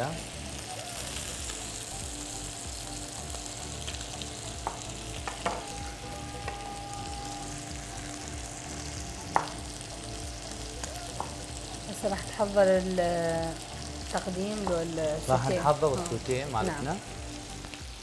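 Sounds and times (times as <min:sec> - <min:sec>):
meat sizzling in a frying pan: 0:00.0 - 0:18.0.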